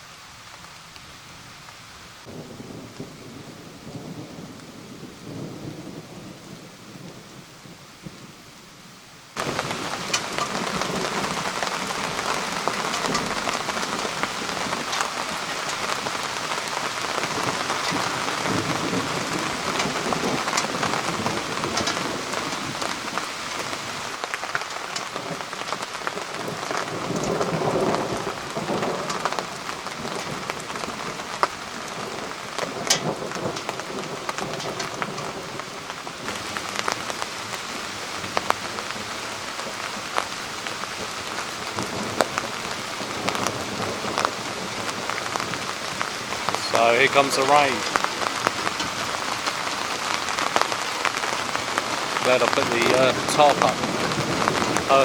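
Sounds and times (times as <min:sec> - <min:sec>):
heavy rain falling: 0:00.0 - 0:55.0
thunder rumbling: 0:02.2 - 0:55.0.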